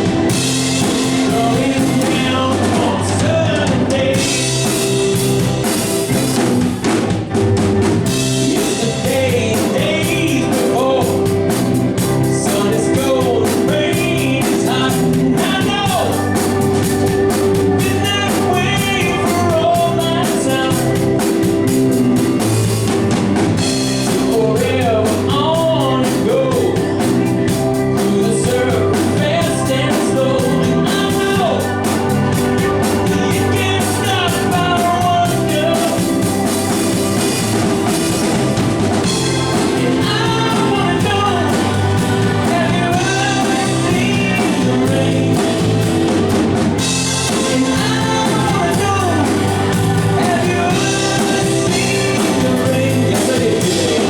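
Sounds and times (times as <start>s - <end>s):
person singing: 0.0s - 5.8s, 8.1s - 16.6s, 17.2s - 21.8s, 23.8s - 38.4s, 39.0s - 54.0s
live rock and roll band: 0.0s - 54.0s.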